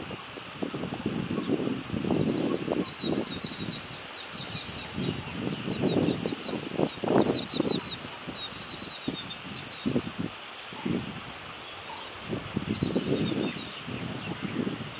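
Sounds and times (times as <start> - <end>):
small birds chirping: 0.0 - 14.9
wind buffeting microphone: 0.0 - 14.9.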